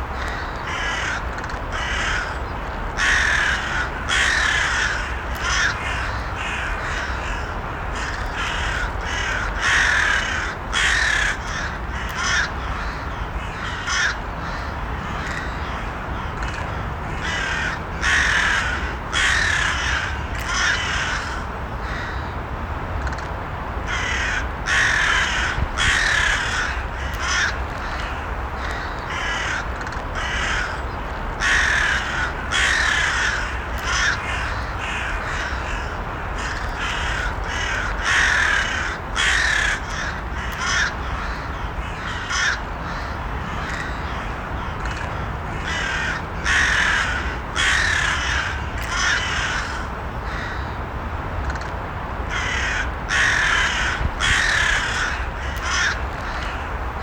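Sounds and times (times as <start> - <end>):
crows cawing: 0.2 - 2.4, 3.0 - 22.3, 23.9 - 50.8, 52.3 - 57.0.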